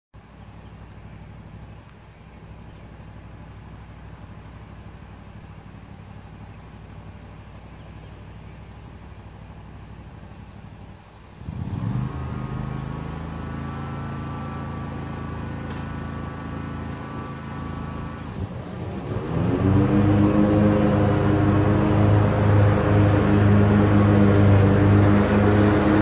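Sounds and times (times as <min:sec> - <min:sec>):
mower engine idling and revving: 0:00.2 - 0:26.0.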